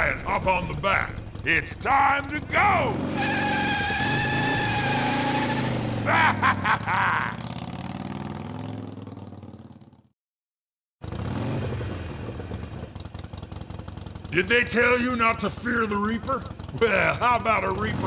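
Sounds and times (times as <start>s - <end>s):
motorcycle engine revving through speaker: 0.0s - 9.5s, 11.0s - 13.1s, 14.2s - 18.0s.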